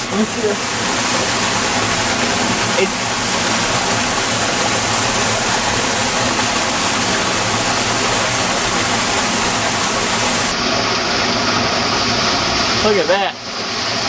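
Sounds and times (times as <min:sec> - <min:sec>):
water rushing through sewer: 0:00.0 - 0:14.0.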